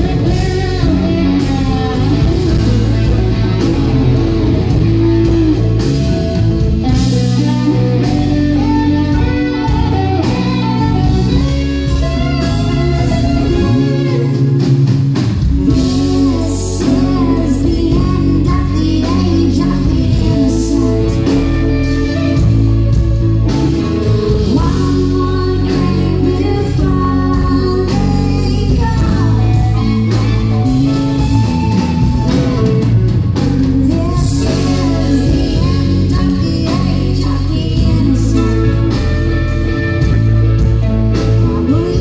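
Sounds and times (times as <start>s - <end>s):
drums: 0.0s - 42.0s
electric bass: 0.0s - 42.0s
electric guitar lead: 0.0s - 42.0s.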